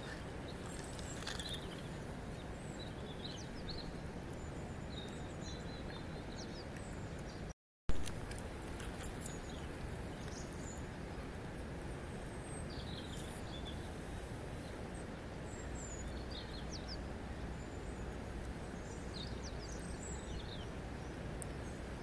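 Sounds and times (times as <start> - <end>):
small birds chirping: 0.0 - 7.5, 8.7 - 11.3, 12.2 - 22.0.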